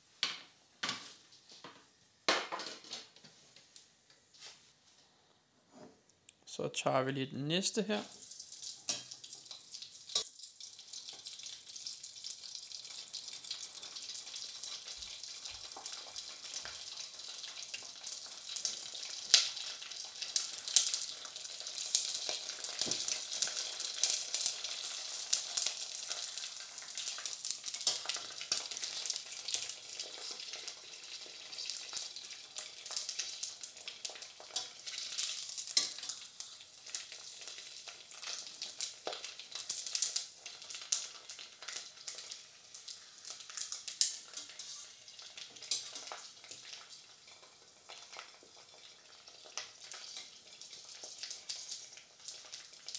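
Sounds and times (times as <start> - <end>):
deep-frying sizzle: 7.6 - 52.9
oil crackling and popping: 8.0 - 52.9.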